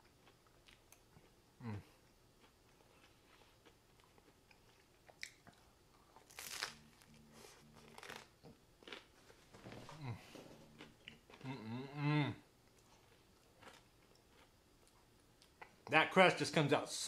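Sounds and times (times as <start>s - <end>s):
person chewing crunchy pizza: 0.0s - 15.8s.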